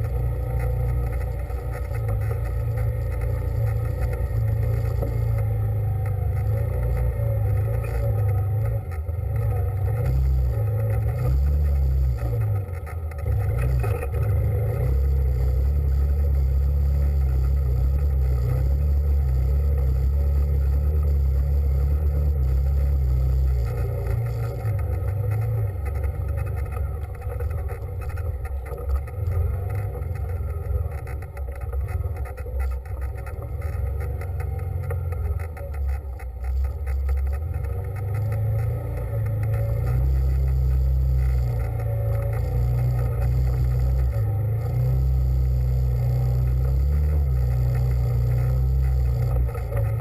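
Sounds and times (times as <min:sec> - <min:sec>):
vehicle rumbling: 0:00.0 - 0:50.0.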